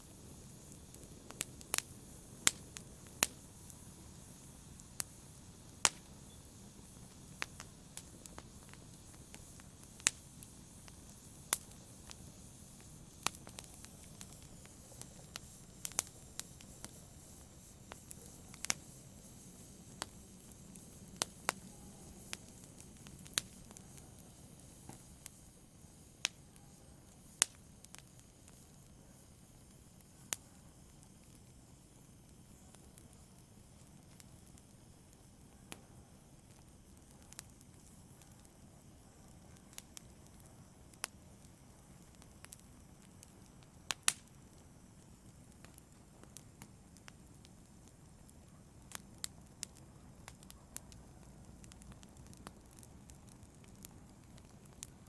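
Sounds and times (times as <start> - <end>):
faint steady hiss: 0.0 - 55.0
fire crackling and popping: 0.0 - 55.0.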